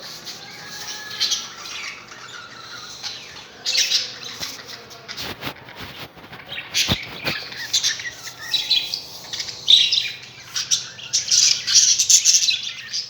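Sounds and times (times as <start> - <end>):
budgerigars chattering and chirping: 0.0 - 13.0.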